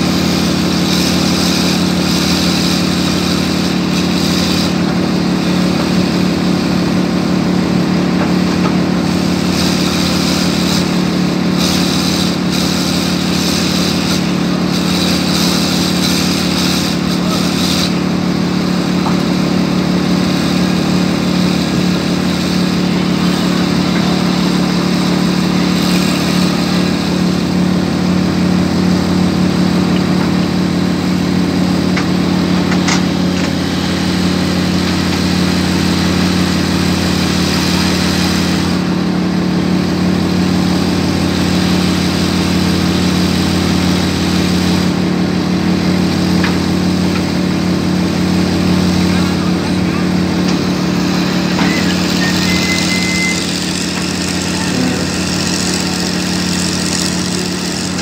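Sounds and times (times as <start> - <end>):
excavator diesel engine drone: 0.0 - 58.0.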